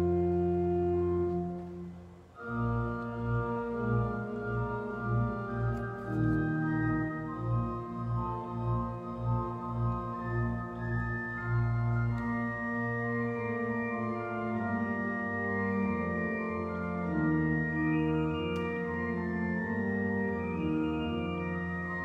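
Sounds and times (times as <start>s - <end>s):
church organ chords: 0.0s - 22.0s.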